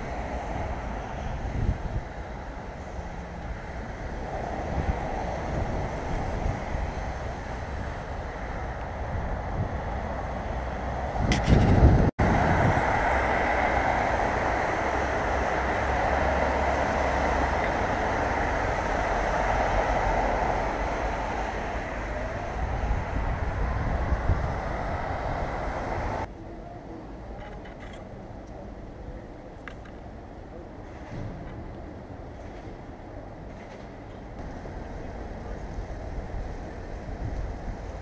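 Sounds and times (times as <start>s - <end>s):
car tyres on snowy road: 0.0s - 26.3s, 27.1s - 38.0s
street ambience: 0.0s - 38.0s.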